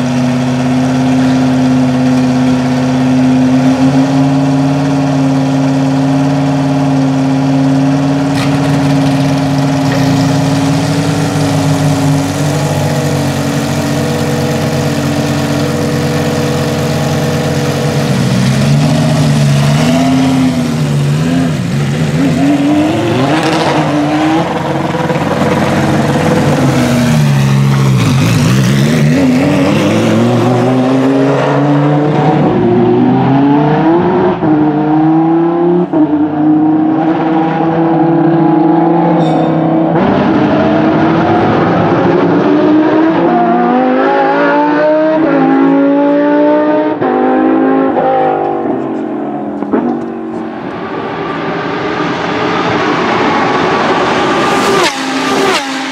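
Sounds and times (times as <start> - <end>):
race car accelerating with upshifts: 0.0 - 55.9.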